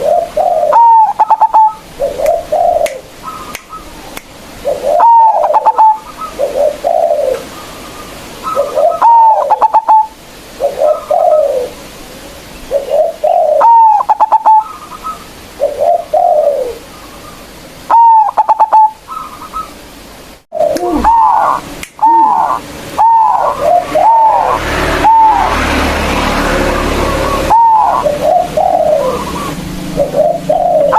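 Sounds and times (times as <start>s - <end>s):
dove cooing: 0.0s - 3.9s, 4.6s - 11.9s, 12.7s - 19.8s, 20.6s - 30.9s.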